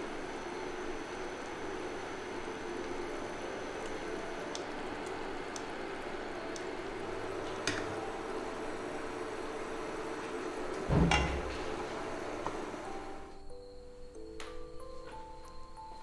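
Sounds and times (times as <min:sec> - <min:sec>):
broth simmering: 0:00.0 - 0:13.2
steady background hum: 0:00.0 - 0:16.0.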